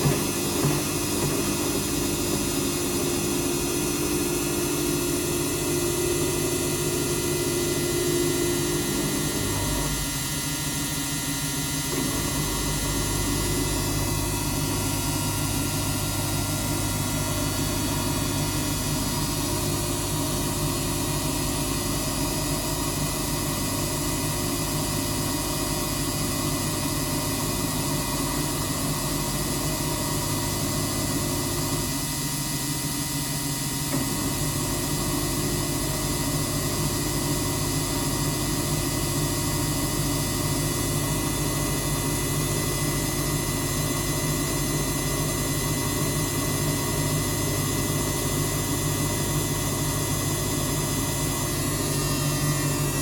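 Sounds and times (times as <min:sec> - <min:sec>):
washing machine spin whine: 0:00.0 - 0:53.0.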